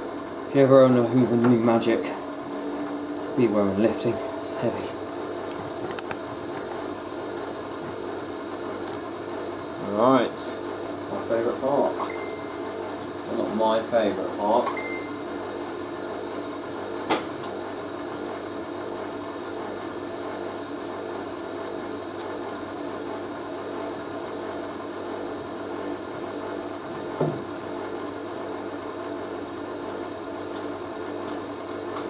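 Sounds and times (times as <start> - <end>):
drain pump humming: 0.0 - 32.0.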